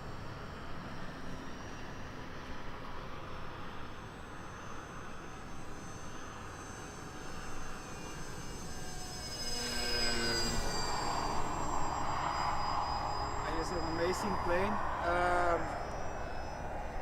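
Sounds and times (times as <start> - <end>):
model airplane motor whine: 0.0 - 17.0.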